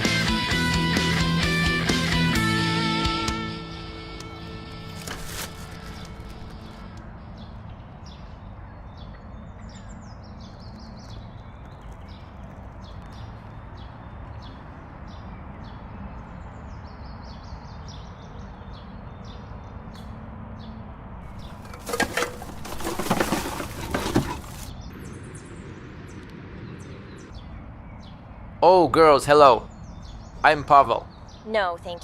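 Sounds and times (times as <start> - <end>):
small birds chirping: 4.8 - 32.0.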